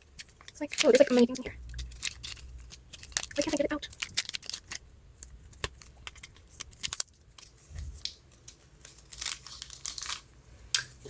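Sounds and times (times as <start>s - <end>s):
paper and plastic rustling: 0.0s - 10.3s.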